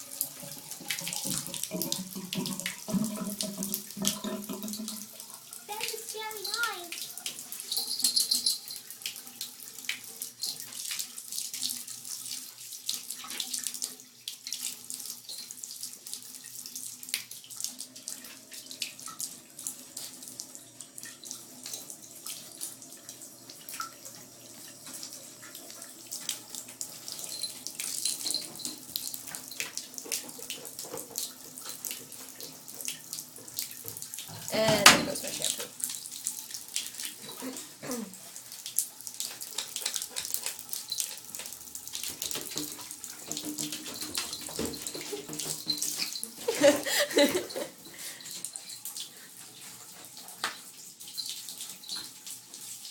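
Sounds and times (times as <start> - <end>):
tap water splashing in sink: 0.0 - 52.6.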